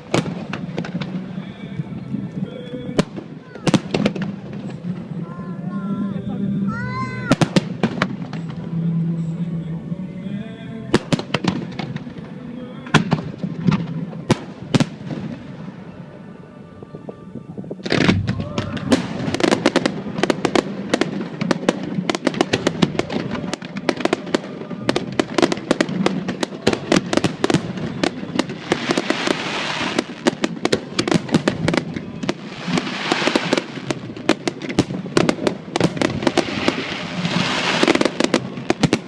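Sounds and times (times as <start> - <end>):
fireworks bangs and crackles: 0.0 - 8.8, 10.9 - 16.2, 17.5 - 39.0.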